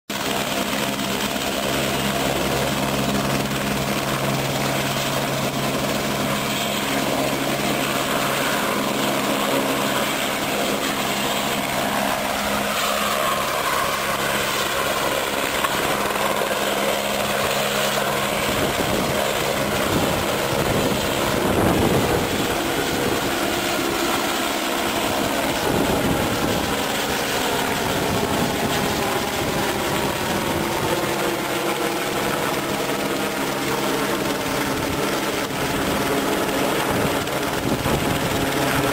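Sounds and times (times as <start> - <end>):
helicopter turbine and rotor: 0.1 - 38.9.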